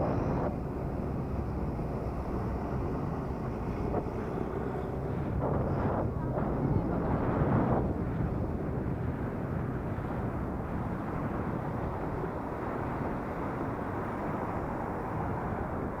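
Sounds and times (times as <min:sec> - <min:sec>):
bike road noise: 0:00.0 - 0:16.0
wind rush: 0:03.0 - 0:16.0.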